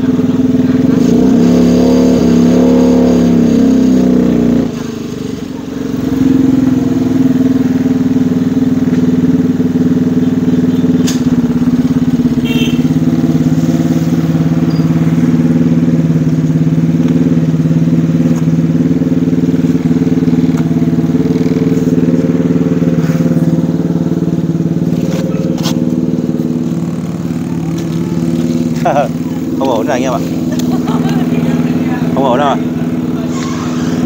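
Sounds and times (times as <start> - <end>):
car engine running steadily: 0.0 - 34.0.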